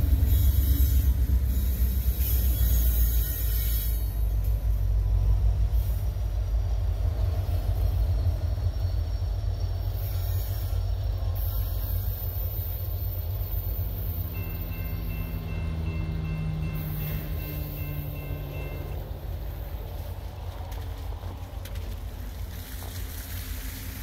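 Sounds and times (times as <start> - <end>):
diesel locomotive engines rumbling: 0.0 - 24.0.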